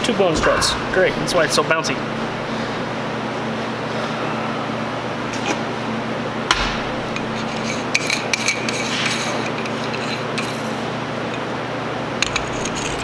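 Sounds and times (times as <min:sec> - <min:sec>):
steady shop hum: 0:00.0 - 0:13.0.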